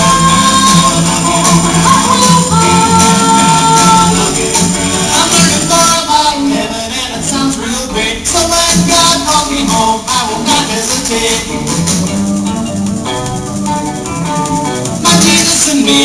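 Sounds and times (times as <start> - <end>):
shaken percussion: 0.0 - 16.0
upbeat gospel song: 0.0 - 16.0.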